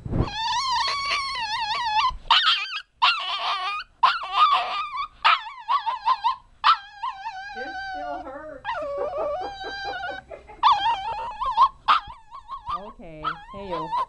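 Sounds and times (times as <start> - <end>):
puppy crying and whining: 0.2 - 14.0.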